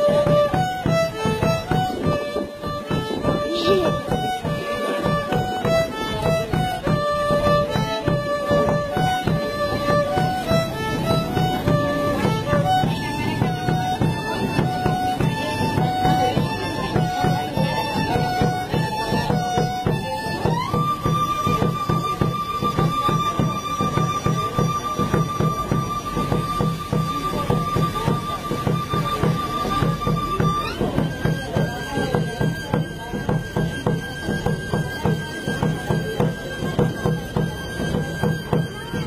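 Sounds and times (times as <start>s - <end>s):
bass drum beating: 0.0s - 39.0s
violin march melody: 0.0s - 39.0s.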